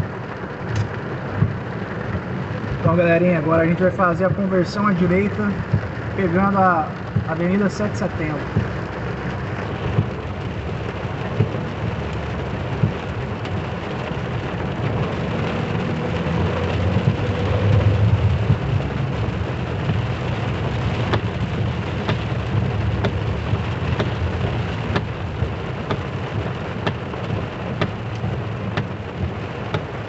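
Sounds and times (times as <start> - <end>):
engine and tyre rumble: 0.0 - 30.0
heavy rain on car roof: 0.0 - 30.0
windshield wipers ticking: 0.0 - 30.0.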